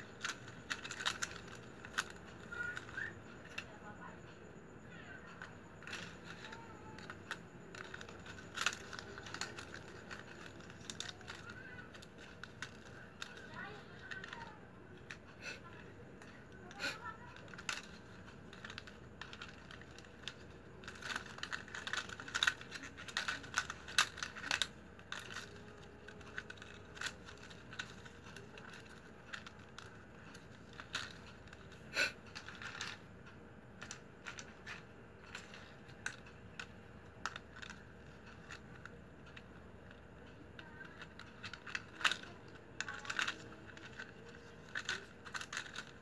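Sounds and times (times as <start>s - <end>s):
plastic strapping clicks and crinkles: 0.0s - 4.2s, 5.0s - 46.0s.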